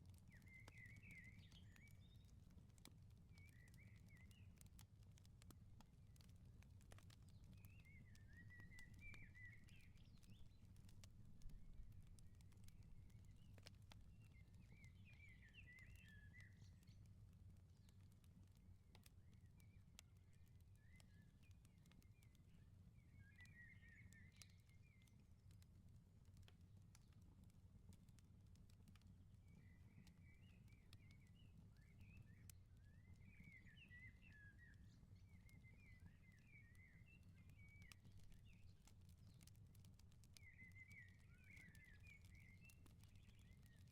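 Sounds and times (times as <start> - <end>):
wood fire crackling and popping: 0.0 - 33.7, 34.6 - 43.9.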